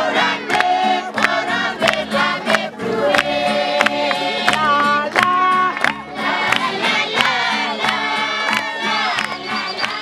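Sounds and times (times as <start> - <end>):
crowd singing and shouting: 0.0 - 10.0.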